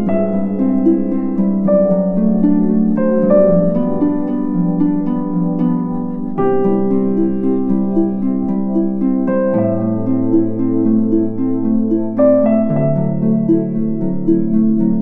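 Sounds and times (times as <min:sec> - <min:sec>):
plucked harp-like melody: 0:00.0 - 0:15.0
sustained chords: 0:00.0 - 0:15.0.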